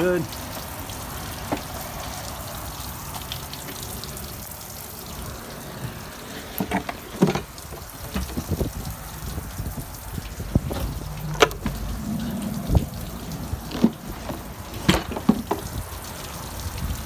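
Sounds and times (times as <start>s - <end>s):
hiss of water: 0.0s - 14.9s.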